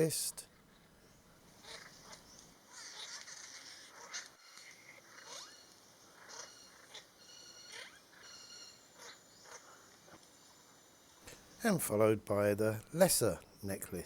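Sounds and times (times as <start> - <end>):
faint bird calls: 0.0 - 11.7.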